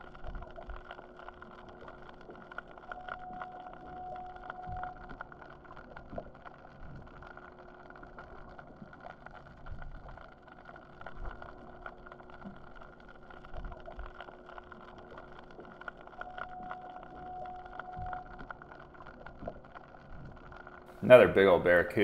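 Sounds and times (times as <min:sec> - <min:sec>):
steady mechanical hum underwater: 0:00.0 - 0:22.0.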